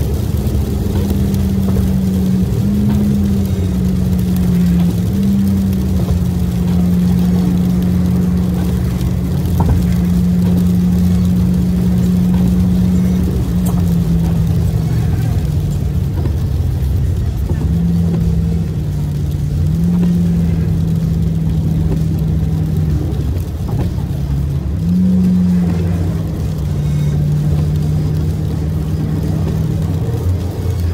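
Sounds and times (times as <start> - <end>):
car engine drone: 0.0 - 30.9
tyre hiss on wet road: 0.0 - 30.9.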